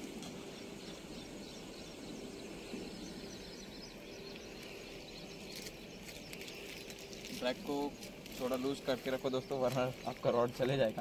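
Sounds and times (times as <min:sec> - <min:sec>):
low steady noise with hum: 0:00.0 - 0:11.0
small bird chirps: 0:00.2 - 0:10.9.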